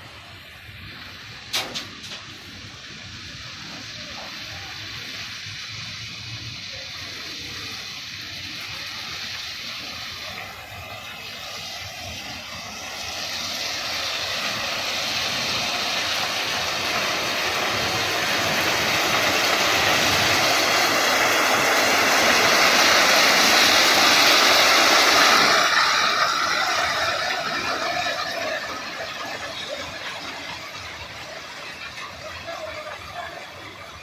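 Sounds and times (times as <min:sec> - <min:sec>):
stone ballast pouring onto track: 0:06.5 - 0:34.0.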